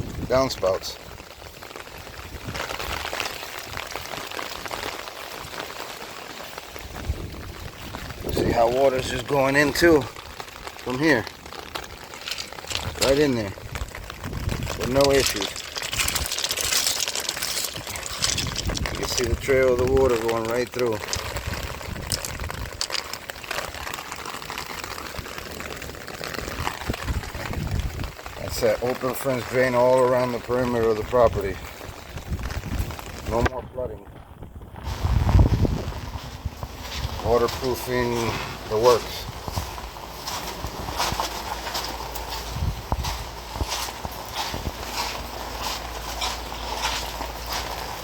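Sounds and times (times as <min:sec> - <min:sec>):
water splashing and pattering: 0:00.0 - 0:48.0.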